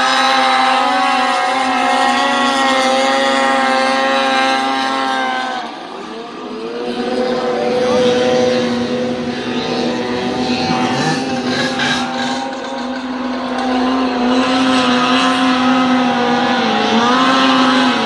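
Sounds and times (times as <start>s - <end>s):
snowmobile engine at high revs: 0.0s - 18.0s.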